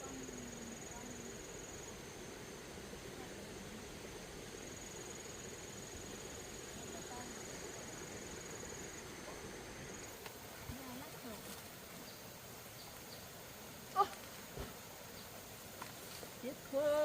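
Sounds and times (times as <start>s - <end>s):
insect high-pitched drone: 0.0s - 17.0s
low outdoor background hum: 0.0s - 17.0s.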